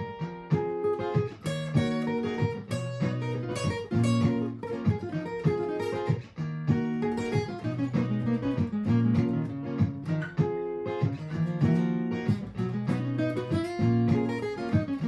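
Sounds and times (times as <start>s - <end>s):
picked guitar notes: 0.0s - 15.0s
strummed acoustic guitar loop: 0.0s - 15.0s.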